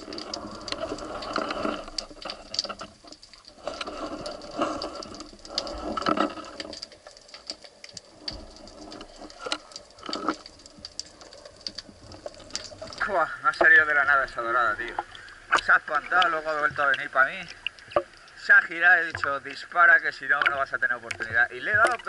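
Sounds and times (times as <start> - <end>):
muffled swishes of water: 0.0 - 22.0
underwater clicks and crackling: 0.0 - 22.0.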